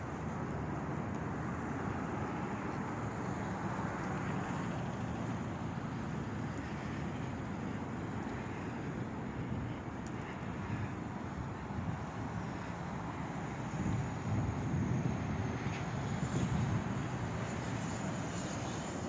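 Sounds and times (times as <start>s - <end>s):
steady outdoor rumble and hiss: 0.0s - 19.0s.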